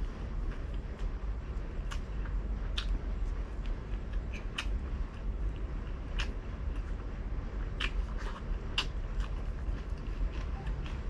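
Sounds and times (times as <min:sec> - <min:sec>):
steady low hum: 0:00.0 - 0:11.0
chewing mouth clicks and smacks: 0:00.4 - 0:11.0.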